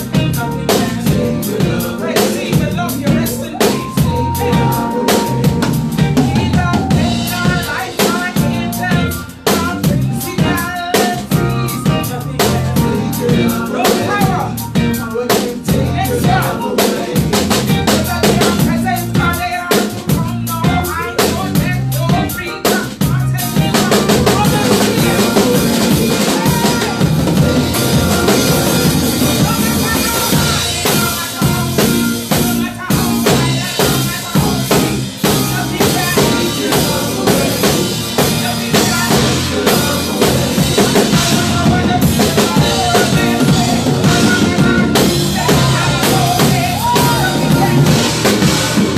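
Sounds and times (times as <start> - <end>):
drum kit with rimshots: 0.0 - 48.9
live band playing gospel music: 0.0 - 48.9.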